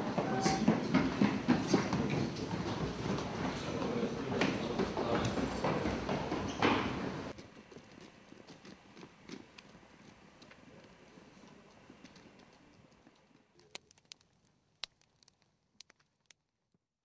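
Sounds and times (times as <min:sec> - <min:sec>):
faint footsteps on pavement: 0:00.0 - 0:15.4.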